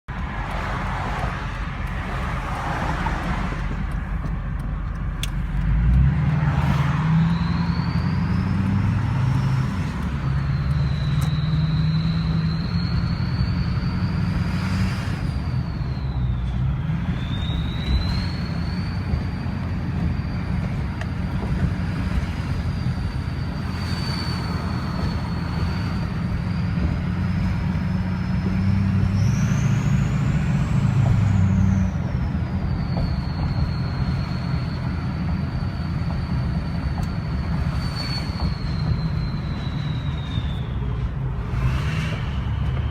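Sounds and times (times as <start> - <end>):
vehicle engine drone: 0.0 - 42.9
turbocharger whistle: 5.2 - 42.9.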